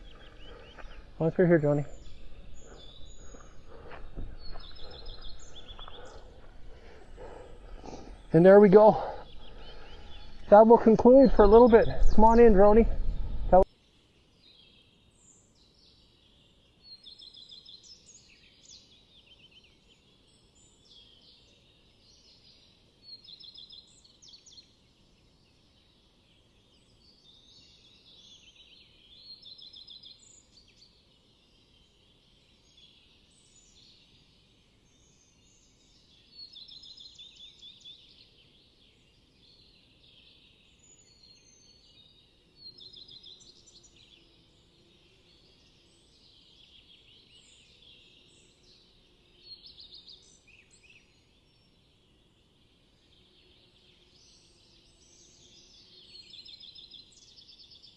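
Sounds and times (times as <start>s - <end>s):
faint songbirds trilling: 0.0s - 57.9s.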